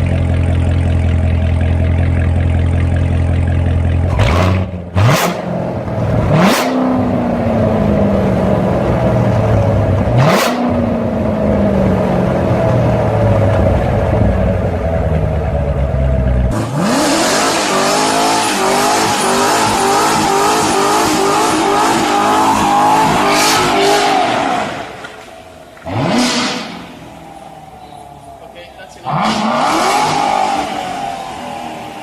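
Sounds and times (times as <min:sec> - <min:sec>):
car engine accelerating: 0:00.0 - 0:32.0
engine revving: 0:01.5 - 0:15.2, 0:16.3 - 0:32.0.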